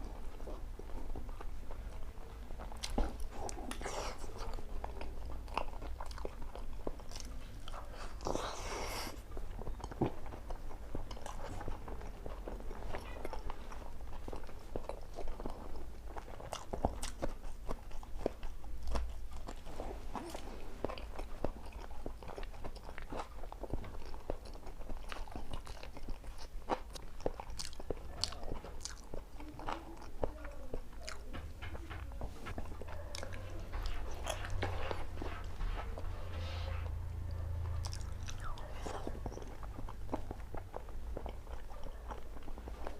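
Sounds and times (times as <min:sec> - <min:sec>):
food crunching: 0:00.0 - 0:42.9
person chewing: 0:00.0 - 0:42.9.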